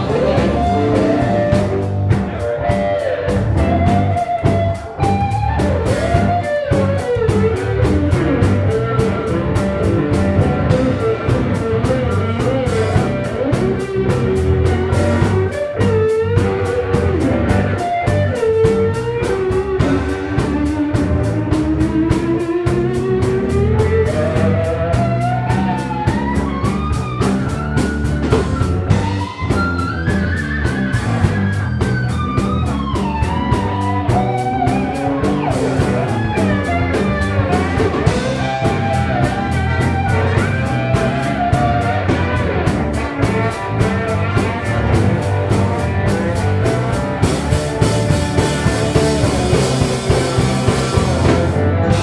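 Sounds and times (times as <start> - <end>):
blues-rock band playing: 0.0 - 52.0
sliding lead guitar melody: 0.0 - 52.0.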